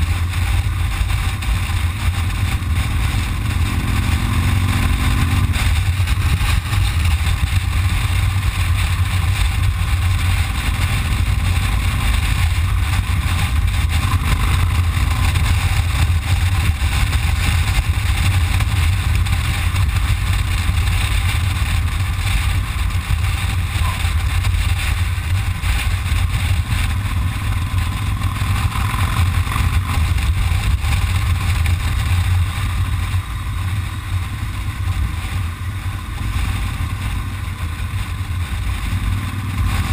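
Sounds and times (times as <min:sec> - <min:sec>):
motorcycle engine rumble: 0:00.0 - 0:39.9
wind rush on microphone: 0:00.0 - 0:39.9.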